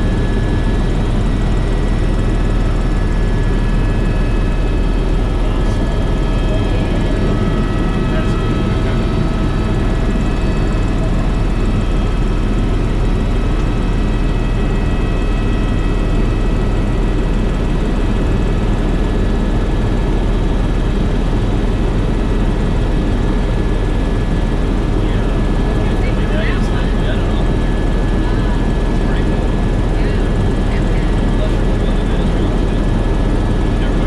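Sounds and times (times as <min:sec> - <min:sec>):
helicopter cabin drone: 0:00.0 - 0:34.0.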